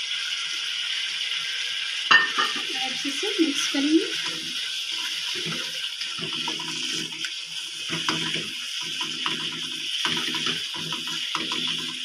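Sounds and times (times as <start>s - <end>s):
food sizzling in a wok: 0.0s - 12.0s
spatula scraping a pan: 2.2s - 12.0s.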